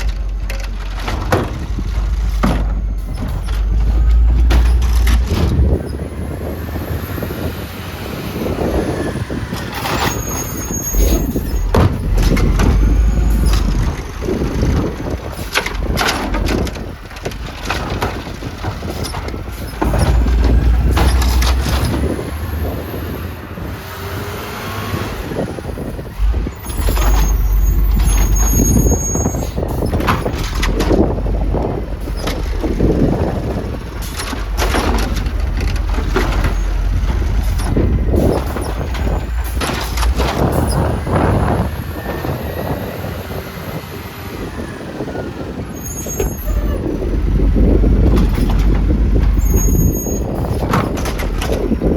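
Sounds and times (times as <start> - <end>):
brake squeals: 0.0 - 51.9
garbage truck working: 0.0 - 51.9
wind buffeting microphone: 0.0 - 51.9.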